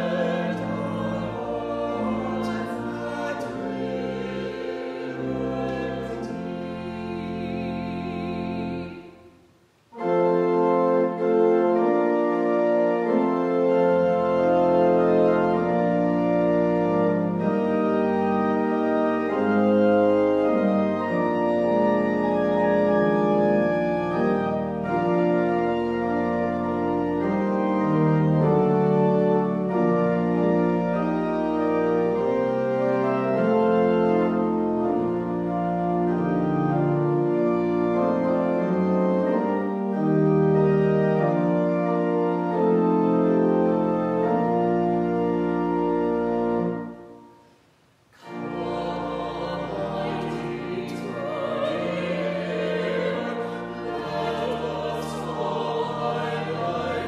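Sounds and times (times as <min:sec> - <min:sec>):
church organ hymn chords: 0:00.0 - 0:57.0.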